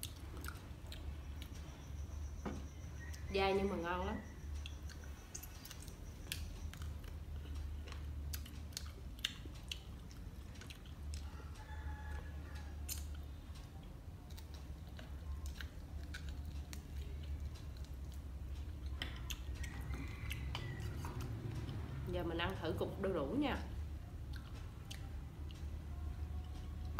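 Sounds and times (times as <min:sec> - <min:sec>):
person chewing meat: 0:00.0 - 0:02.0, 0:04.4 - 0:22.0, 0:23.9 - 0:26.9
steady low hum: 0:00.0 - 0:26.9.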